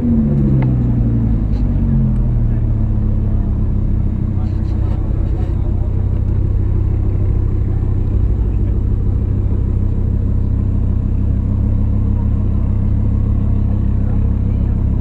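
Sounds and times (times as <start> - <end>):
car engine running low rumble: 0.0 - 15.0.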